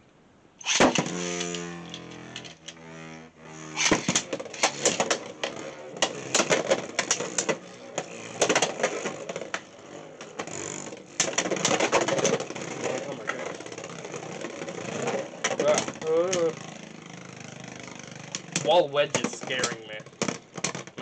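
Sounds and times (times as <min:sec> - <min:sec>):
plastic tops clacking and rattling: 0:00.6 - 0:03.1, 0:03.7 - 0:16.7, 0:18.2 - 0:21.0
spinning tops whirring: 0:00.6 - 0:21.0.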